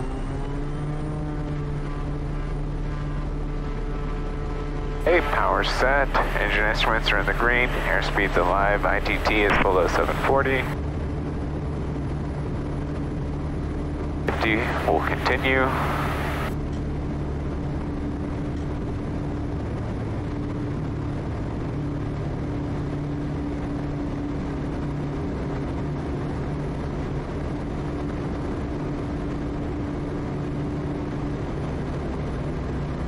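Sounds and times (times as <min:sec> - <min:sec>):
turboprop engine drone: 0:00.0 - 0:33.0.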